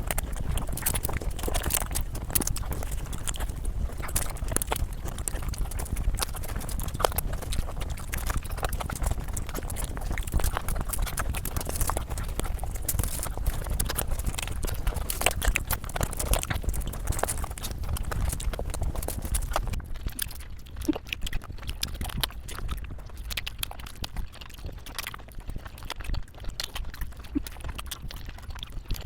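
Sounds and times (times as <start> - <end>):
chewing and crunching: 0.0 - 29.0.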